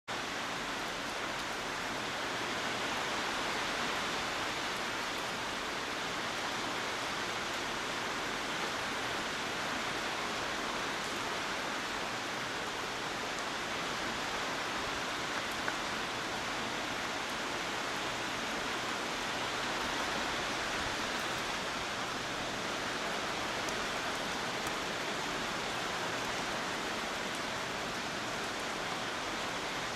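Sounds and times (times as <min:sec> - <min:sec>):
heavy rain hissing: 0:00.4 - 0:29.9.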